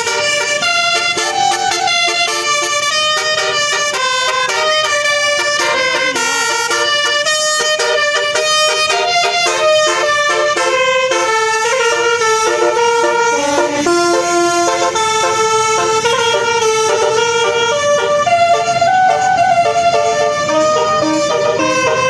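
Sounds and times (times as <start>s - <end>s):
bus horn playing a melody: 0.0s - 22.0s.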